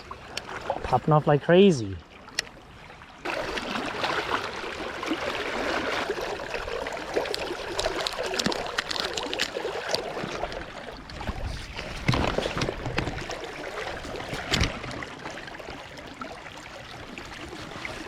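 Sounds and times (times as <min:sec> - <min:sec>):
river water gurgling: 0:00.0 - 0:18.0.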